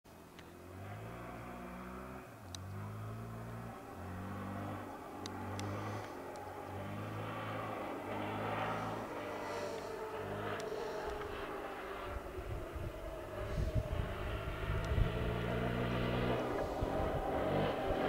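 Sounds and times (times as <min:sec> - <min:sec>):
quad engine revving in spurts: 0:00.3 - 0:18.0.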